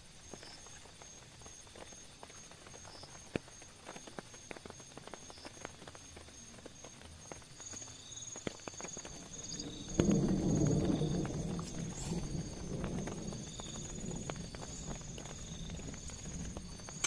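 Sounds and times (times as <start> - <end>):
raindrops tapping on a tent: 0.0 - 17.0.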